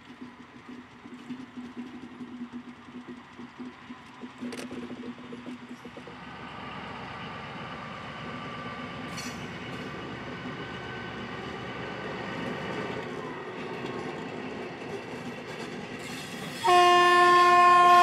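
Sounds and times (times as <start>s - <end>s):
diesel locomotive running: 0.0s - 18.0s
train wheels rolling: 0.0s - 18.0s.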